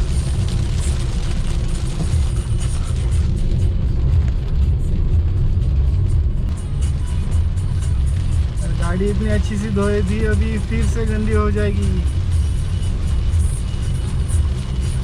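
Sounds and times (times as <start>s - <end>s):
rain hissing: 0.0s - 15.0s
road and wind rumble: 0.0s - 15.0s.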